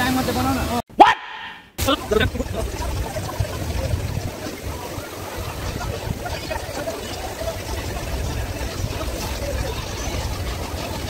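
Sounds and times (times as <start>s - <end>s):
water rushing down slides: 1.8s - 11.0s
low uneven rumble: 2.0s - 11.0s.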